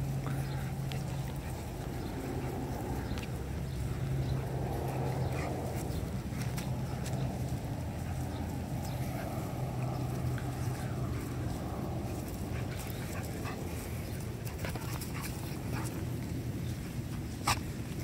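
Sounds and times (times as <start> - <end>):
puppies growling: 0.0 - 18.0.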